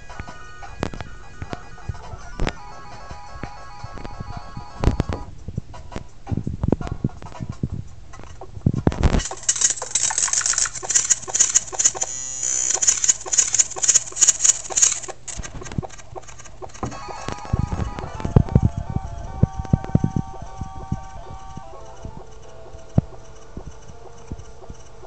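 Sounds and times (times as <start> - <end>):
dense bright noisy texture: 0.0 - 25.0
steady low hum: 0.0 - 25.0.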